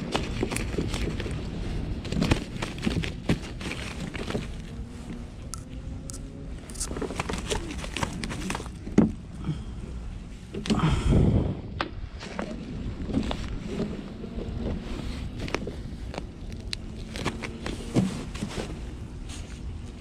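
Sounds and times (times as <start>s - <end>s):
rain gear rustling and crinkling: 0.0s - 9.4s, 12.2s - 20.0s.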